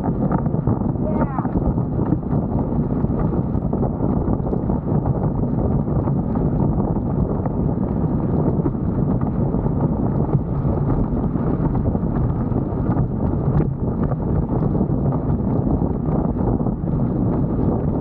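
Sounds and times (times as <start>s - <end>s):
wind across microphone: 0.0s - 18.0s.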